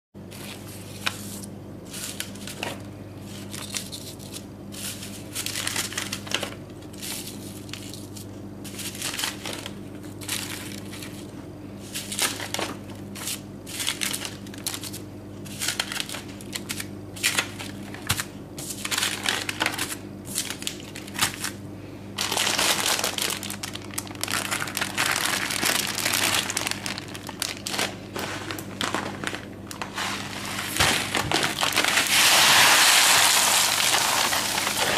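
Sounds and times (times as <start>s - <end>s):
steady low hum: 0.2s - 34.9s
crinkling and crunching handling: 0.3s - 21.6s, 22.2s - 34.9s.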